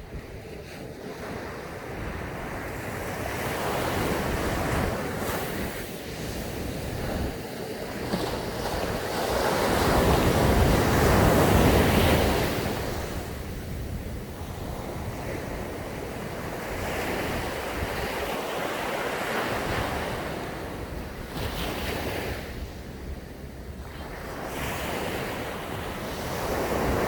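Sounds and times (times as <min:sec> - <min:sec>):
wind on microphone: 0:00.0 - 0:27.0
sea waves breaking on beach: 0:00.2 - 0:27.0.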